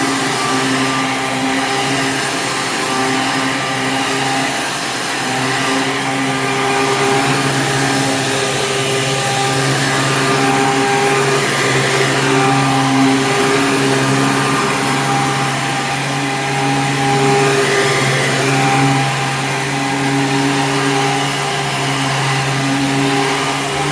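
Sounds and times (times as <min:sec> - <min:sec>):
upright vacuum cleaner running: 0:00.0 - 0:23.9.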